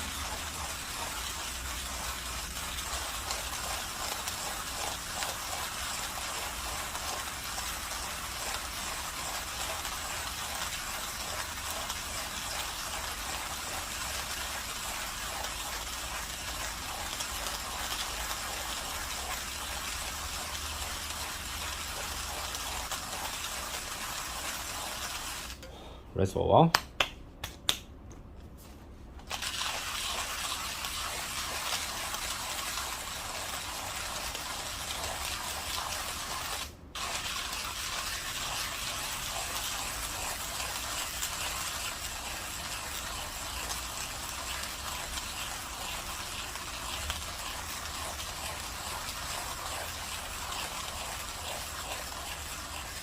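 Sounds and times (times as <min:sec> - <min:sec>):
espresso machine rushing flow: 0:00.0 - 0:25.6, 0:29.3 - 0:53.0.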